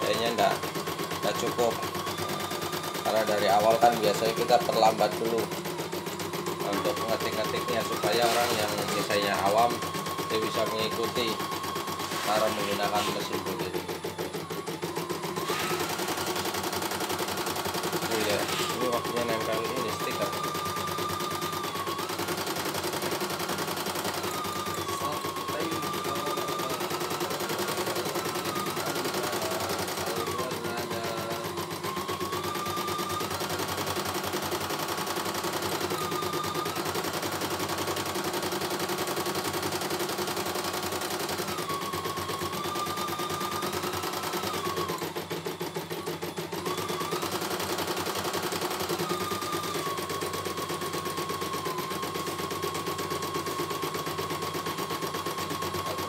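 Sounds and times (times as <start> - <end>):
embroidery machine needle clatter: 0.0 - 56.0
motor whine shifting in pitch: 0.0 - 56.0.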